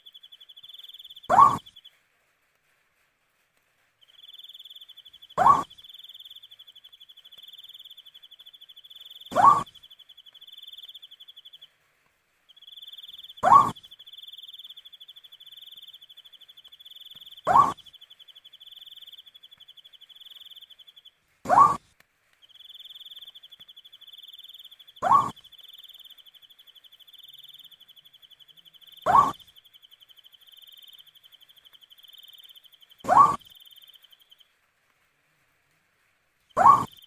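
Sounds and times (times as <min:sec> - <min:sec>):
owl calling: 0:00.0 - 0:01.8, 0:04.2 - 0:11.6, 0:12.6 - 0:21.8, 0:22.5 - 0:27.9, 0:28.5 - 0:34.4, 0:36.6 - 0:37.0.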